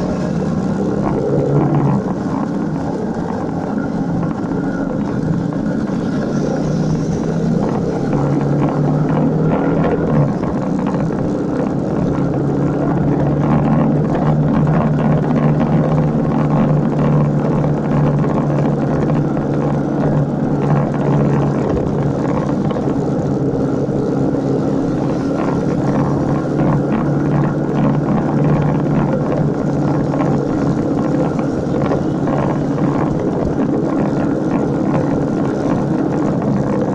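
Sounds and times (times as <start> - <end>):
constant rushing noise: 0.0 - 36.9
motorcycle engine running: 0.0 - 36.9.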